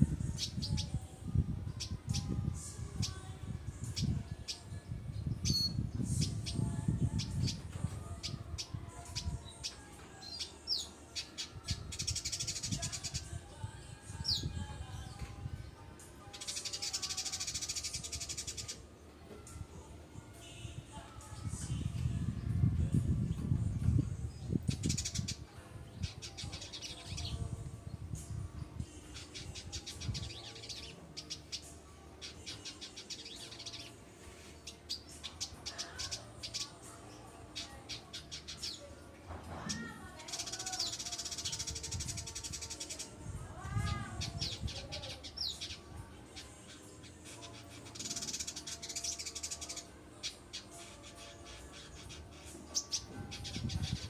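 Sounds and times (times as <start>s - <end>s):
bird singing chirps and buzzy trills: 0.0s - 39.0s, 39.7s - 54.0s.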